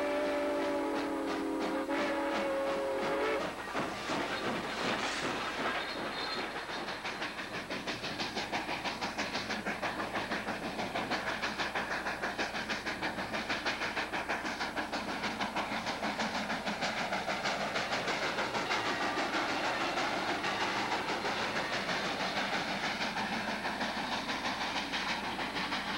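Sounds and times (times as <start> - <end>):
steam locomotive exhaust chuffing: 0.0 - 25.9.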